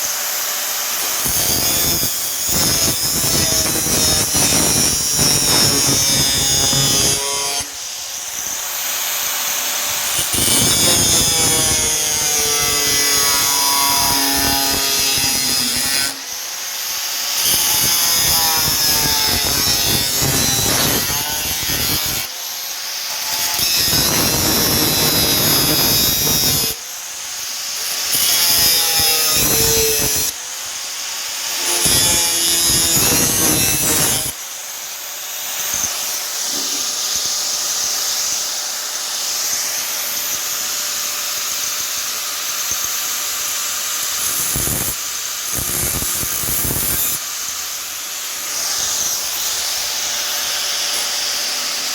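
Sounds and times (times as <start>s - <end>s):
power tool cutting sheet steel: 0.0s - 51.9s.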